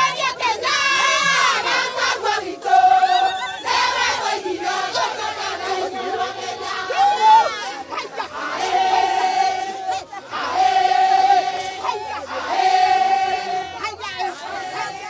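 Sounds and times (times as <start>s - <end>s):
large crowd cheering and shouting: 0.0s - 15.0s.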